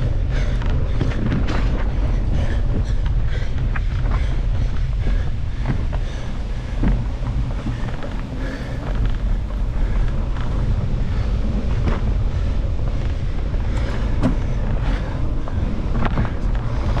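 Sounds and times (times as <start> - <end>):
bike clicks and rattles: 0.0 - 17.0
mountain bike rolling on dirt: 0.0 - 17.0
wind buffeting microphone: 0.0 - 17.0.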